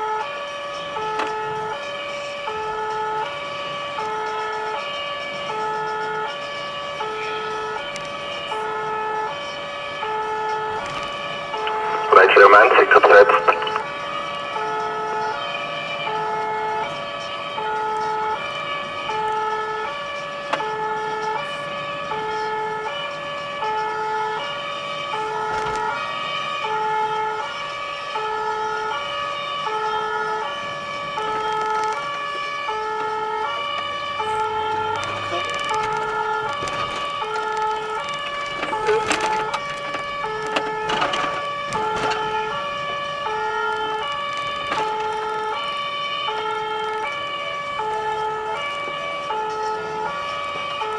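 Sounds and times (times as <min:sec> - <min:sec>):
two-tone emergency siren: 0:00.0 - 0:50.9.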